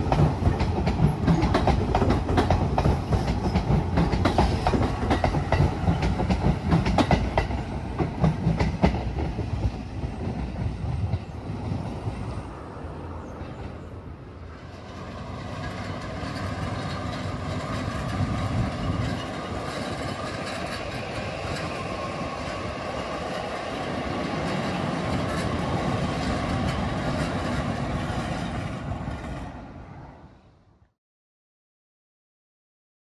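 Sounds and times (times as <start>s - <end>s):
electric train passing: 0.0s - 30.7s
train whine: 0.0s - 30.9s.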